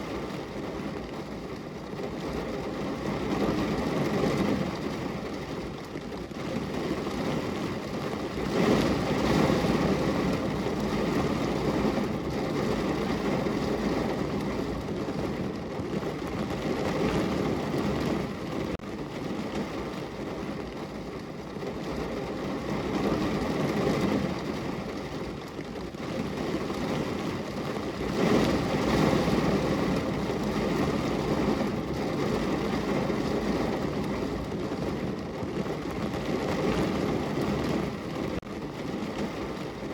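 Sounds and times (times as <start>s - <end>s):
rain on car window: 0.0s - 39.9s.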